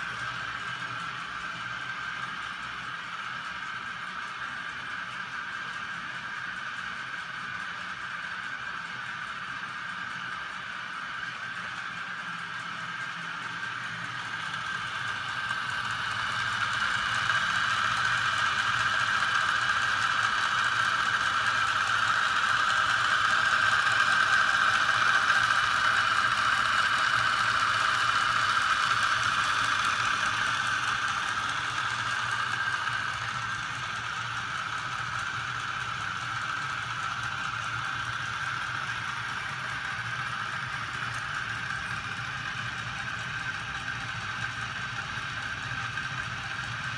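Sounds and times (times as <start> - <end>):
small electric motor whine: 0.0 - 46.9.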